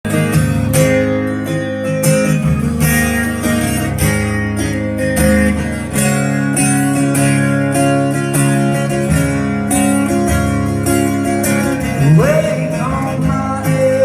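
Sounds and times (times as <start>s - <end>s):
guitar chords strummed: 0.0s - 14.0s.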